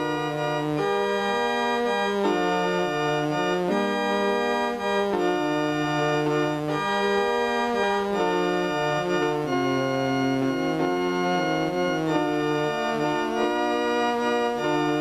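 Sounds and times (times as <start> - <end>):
organ music: 0.0 - 15.0.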